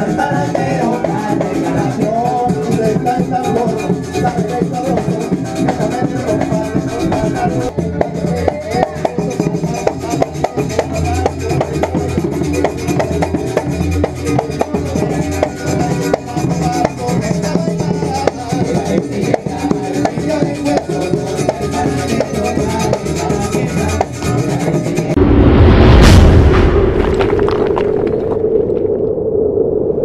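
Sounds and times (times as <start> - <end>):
low bass notes: 0.0 - 19.6, 23.2 - 29.4
hand drums in fast rhythm: 0.0 - 25.2.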